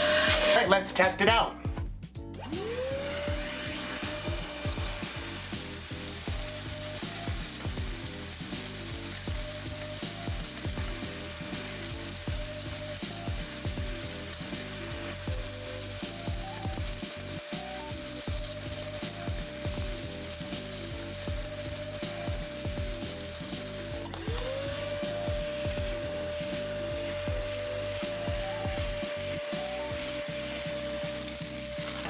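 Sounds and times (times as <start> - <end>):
shop vacuum motor whine: 0.0 - 0.7, 2.2 - 32.0.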